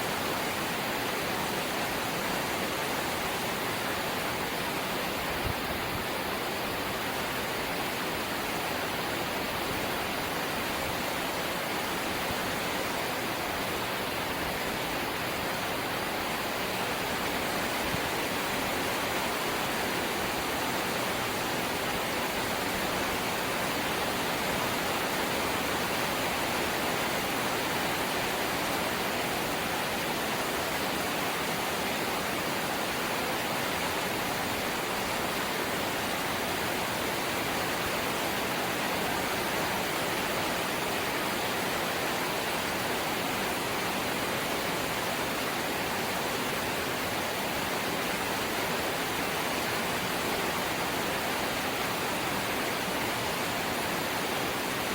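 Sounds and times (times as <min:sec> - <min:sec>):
heavy rain on metal roof: 0:00.0 - 0:54.9.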